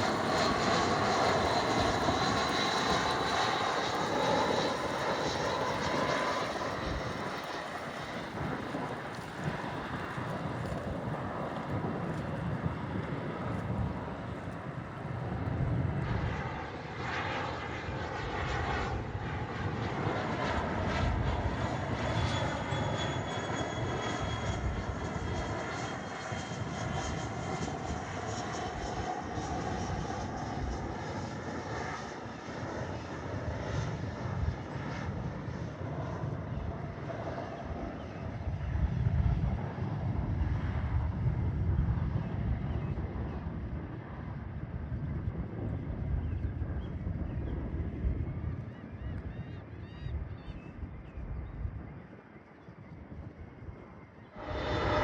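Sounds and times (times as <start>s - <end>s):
airliner jet engines passing: 0.0s - 55.0s
jet turbine whine: 0.0s - 55.0s.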